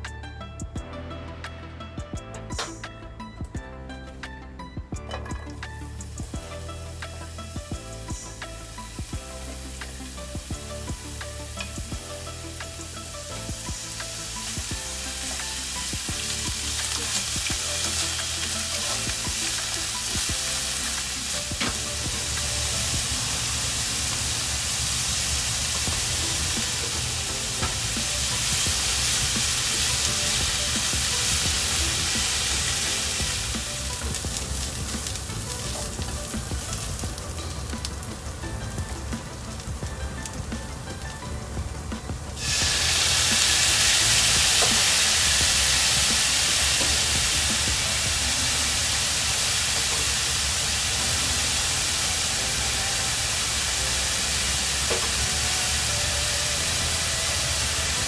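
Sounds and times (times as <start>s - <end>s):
vegetables sizzling in a frying pan: 6.0s - 58.0s.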